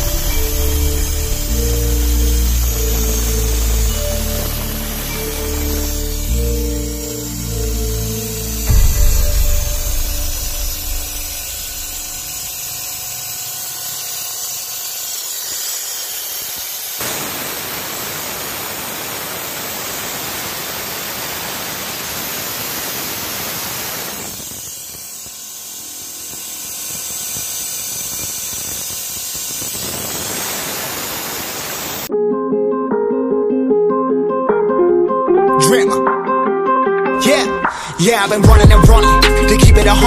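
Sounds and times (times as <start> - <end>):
pressurised spray hissing: 0.0 - 32.1.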